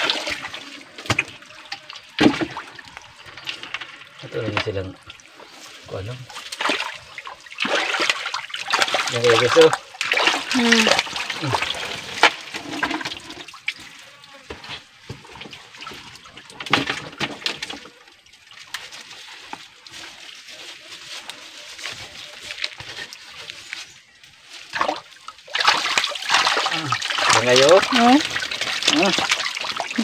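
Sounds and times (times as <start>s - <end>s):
hands and feet splashing in muddy water: 0.0s - 30.0s.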